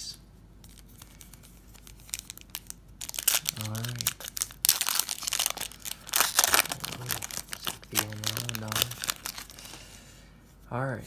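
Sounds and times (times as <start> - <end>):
foil wrapper tearing and crinkling: 0.7 - 9.8.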